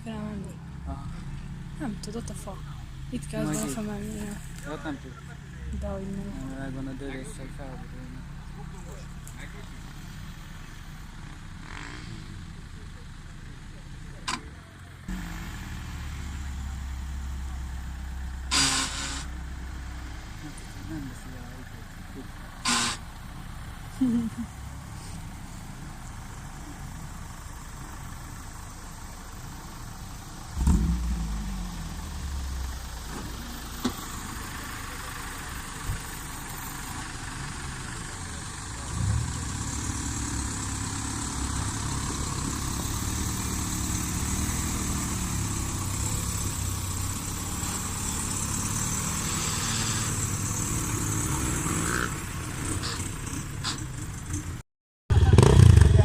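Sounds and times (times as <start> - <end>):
off-road vehicle engines running: 0.0 - 56.0.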